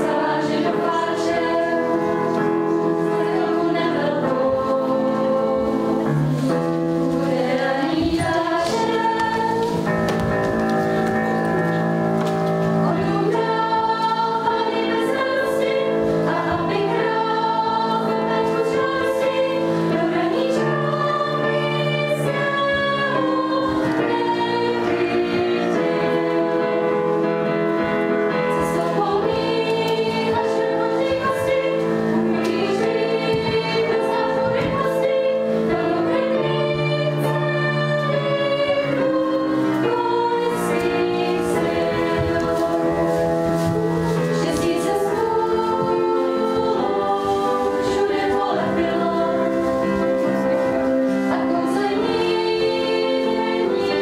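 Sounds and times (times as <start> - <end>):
choir singing long notes: 0.0 - 54.0.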